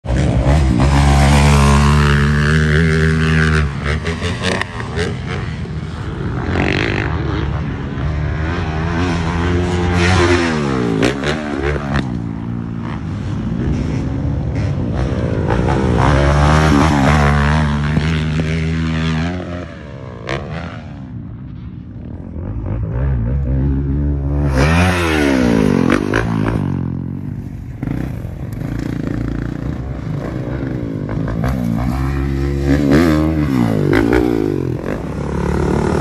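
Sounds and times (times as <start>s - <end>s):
dirt bike engine revving: 0.1s - 21.1s, 22.0s - 36.0s.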